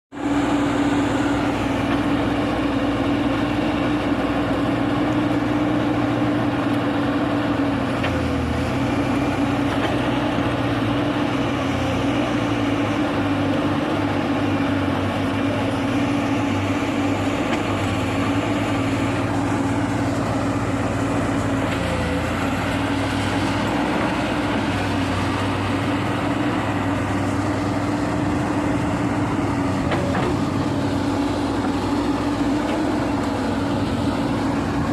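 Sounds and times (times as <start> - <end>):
diesel engine droning: 0.1 - 34.9.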